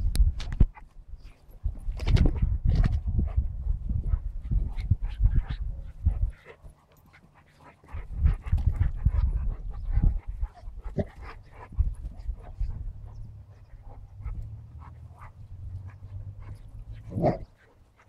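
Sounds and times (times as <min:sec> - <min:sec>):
dogs panting: 0:03.0 - 0:18.0.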